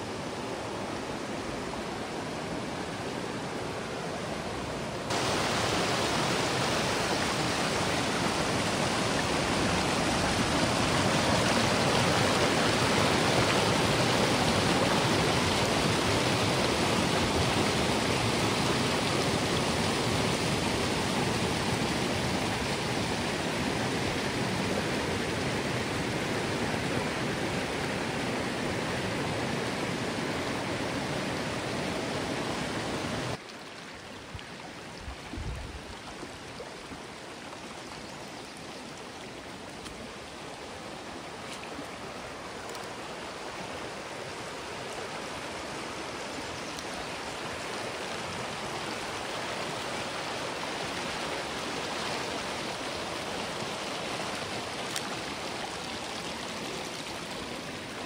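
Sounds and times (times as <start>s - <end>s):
fast-flowing creek water: 0.0s - 58.0s.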